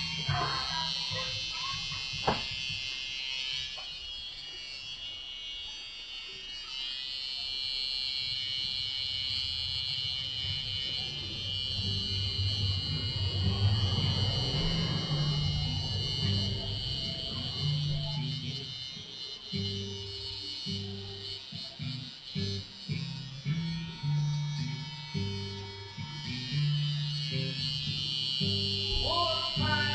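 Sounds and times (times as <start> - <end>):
tattoo machine buzzing: 0.0 - 29.9.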